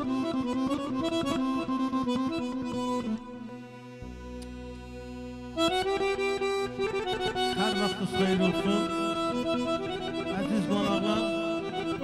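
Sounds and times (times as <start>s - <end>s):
piano accordion melody: 0.0s - 12.0s.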